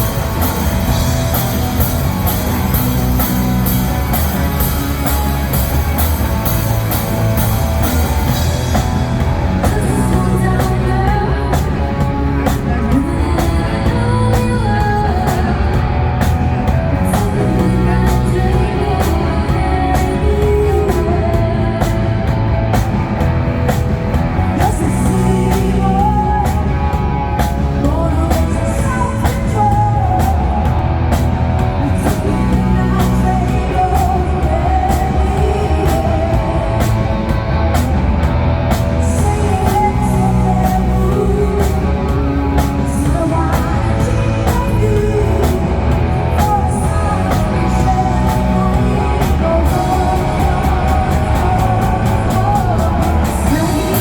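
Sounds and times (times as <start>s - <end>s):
rock music with singer: 0.0s - 54.0s.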